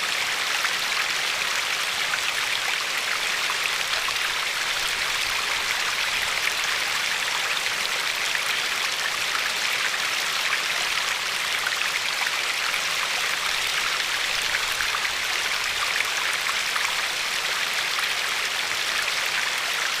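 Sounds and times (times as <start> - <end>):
river flowing over pebbles: 0.0 - 20.0.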